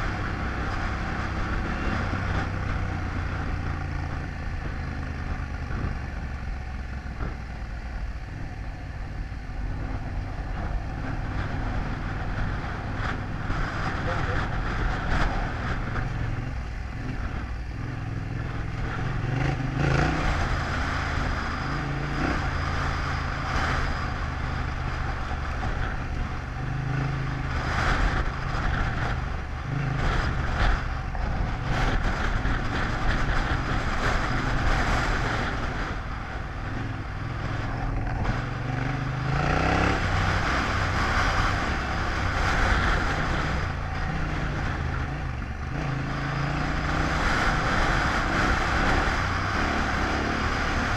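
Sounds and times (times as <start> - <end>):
motorcycle engine revving: 0.0 - 50.9
wind on microphone: 9.5 - 50.9.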